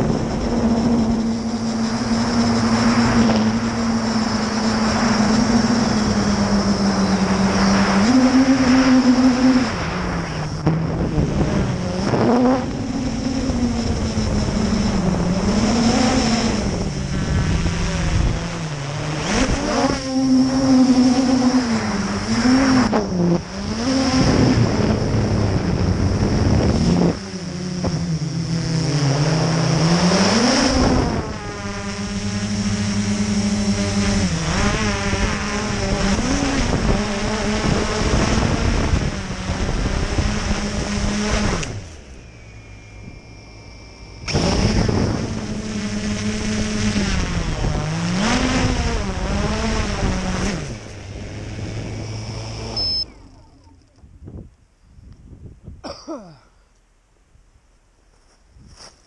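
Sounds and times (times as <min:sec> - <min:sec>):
quadcopter motors whirring: 0:00.0 - 0:54.6.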